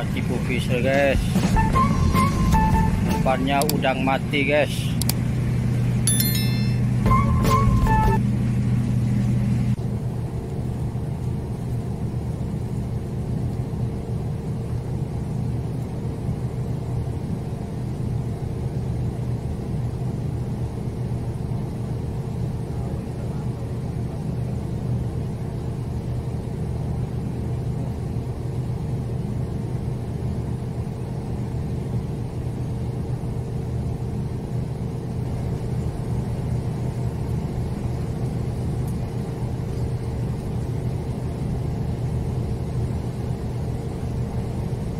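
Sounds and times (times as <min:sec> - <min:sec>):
ship machinery hum: 0:00.0 - 0:44.9.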